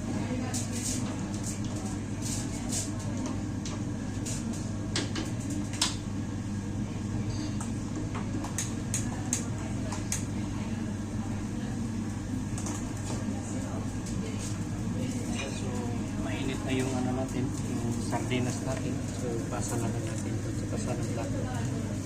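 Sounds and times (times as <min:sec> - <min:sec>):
kitchen machinery humming: 0:00.0 - 0:22.0.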